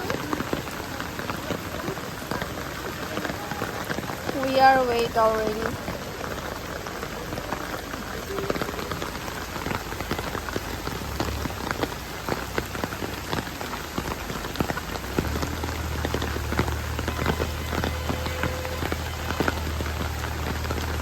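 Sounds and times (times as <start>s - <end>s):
rain falling: 0.0s - 21.0s
raindrops hitting close by: 0.0s - 21.0s.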